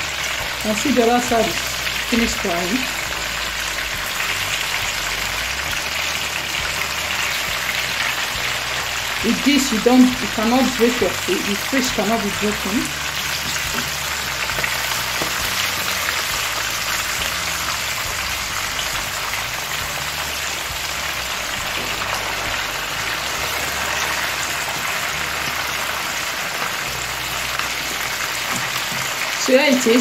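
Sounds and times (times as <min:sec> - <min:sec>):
fish sizzling in oil: 0:00.0 - 0:30.0.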